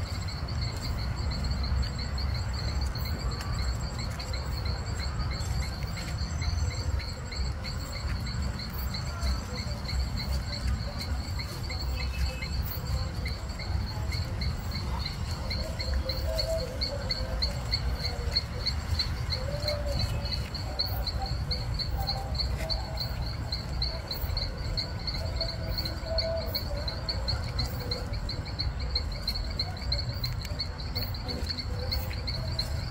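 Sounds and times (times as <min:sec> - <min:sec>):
continuous low rumble: 0:00.0 - 0:32.9
insects trilling: 0:00.0 - 0:32.9.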